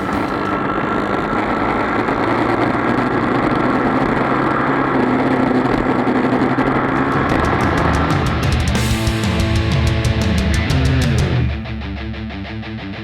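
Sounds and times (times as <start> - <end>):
racing motorcycle engines: 0.0 - 11.5.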